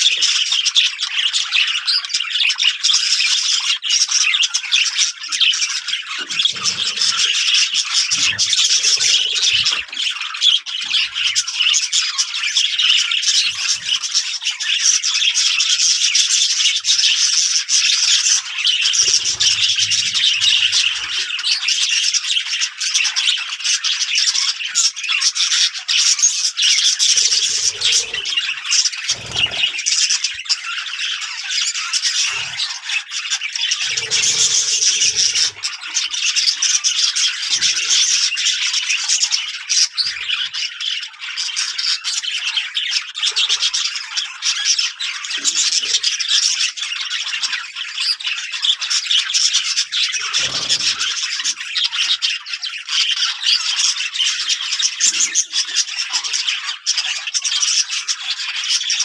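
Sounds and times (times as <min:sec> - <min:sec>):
small birds chattering: 0:00.0 - 0:59.0.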